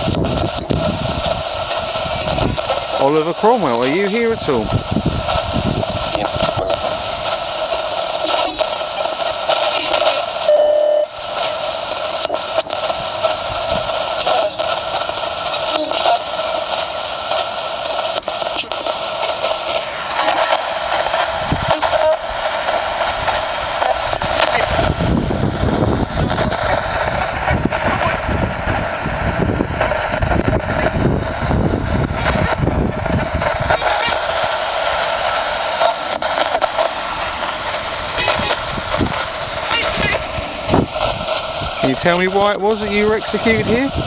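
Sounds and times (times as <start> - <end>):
chopped broadcast fragments: 0.0 - 44.0
low rumble: 0.0 - 44.0
radio static hissing: 0.0 - 44.0.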